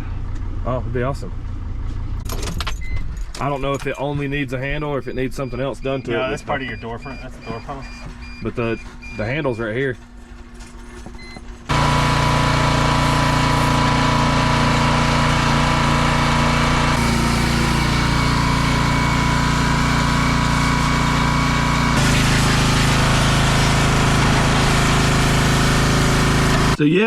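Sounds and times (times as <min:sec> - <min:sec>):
diesel van engine running: 0:00.0 - 0:03.0, 0:04.6 - 0:26.8.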